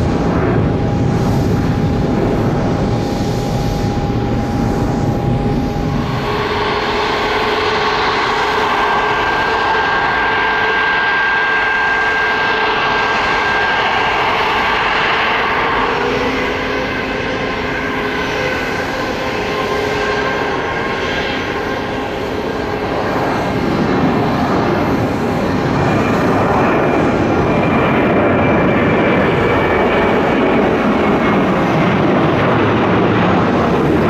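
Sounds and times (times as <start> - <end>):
jet engines at takeoff: 0.0 - 34.0.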